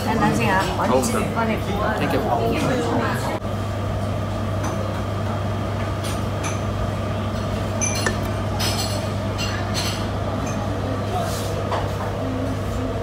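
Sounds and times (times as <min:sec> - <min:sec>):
steady low hum: 0:01.2 - 0:13.0.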